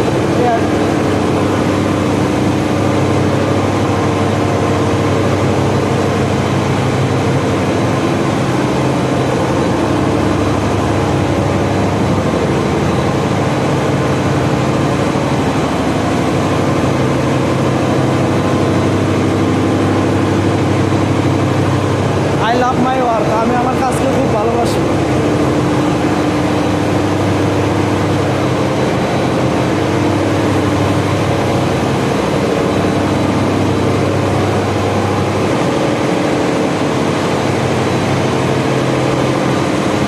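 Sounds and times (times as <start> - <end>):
gas engine running steadily: 0.0 - 40.0.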